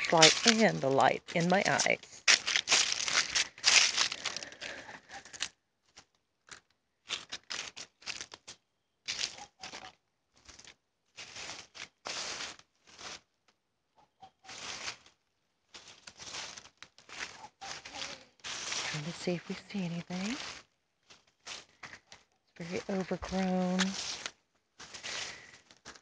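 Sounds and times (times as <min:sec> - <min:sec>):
footsteps crunching dry leaves: 0:00.0 - 0:05.5, 0:07.0 - 0:13.3, 0:14.5 - 0:26.0.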